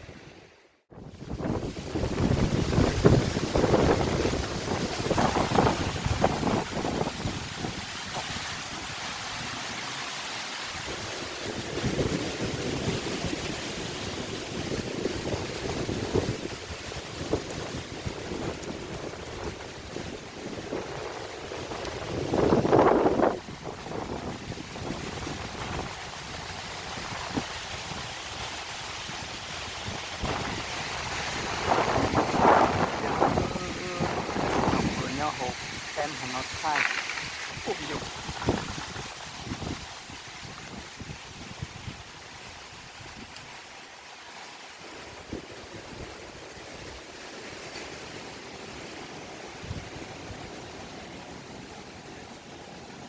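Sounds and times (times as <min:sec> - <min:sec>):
storm wind buffeting microphone: 0:00.0 - 0:09.9, 0:10.7 - 0:43.5.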